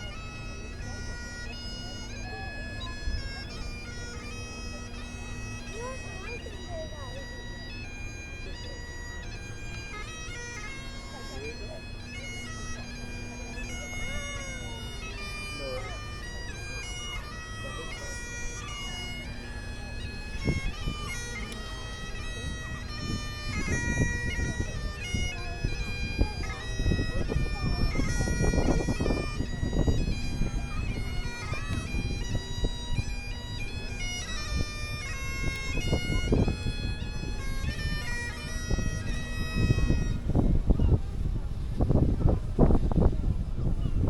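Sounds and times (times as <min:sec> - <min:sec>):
bagpipes playing a tune: 0:00.0 - 0:44.0
noisy background: 0:00.1 - 0:41.7.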